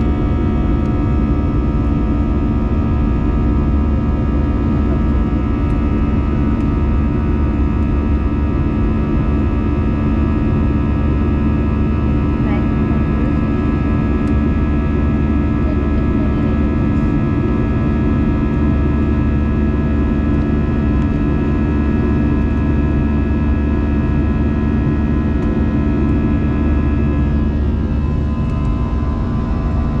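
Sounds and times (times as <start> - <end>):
jet engines in cabin: 0.0 - 30.0.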